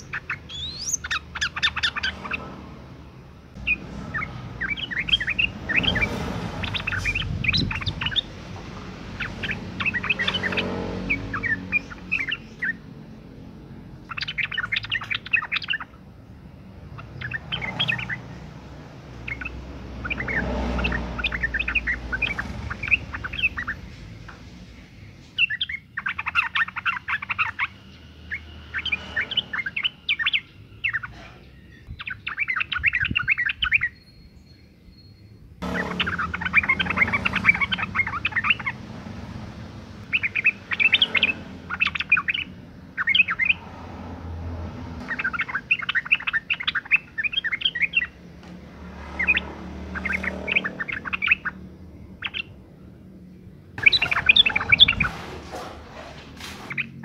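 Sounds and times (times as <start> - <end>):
bird chirping chatter: 0.0 - 57.0.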